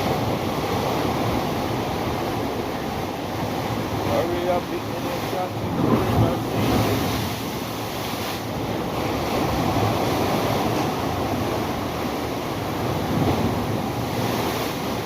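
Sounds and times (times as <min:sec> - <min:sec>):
ocean waves washing: 0:00.0 - 0:15.0
wind buffeting microphone: 0:00.0 - 0:15.0.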